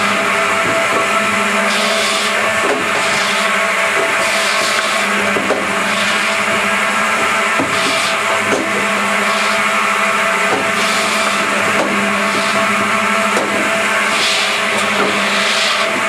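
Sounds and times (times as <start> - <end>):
firewood processor humming: 0.0 - 16.0
saw blades cutting logs: 0.0 - 16.0.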